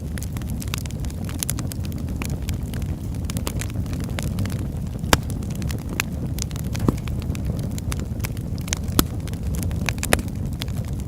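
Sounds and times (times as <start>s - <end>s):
fire crackles and pops: 0.0s - 11.0s
fire flames rumbling: 0.0s - 11.0s.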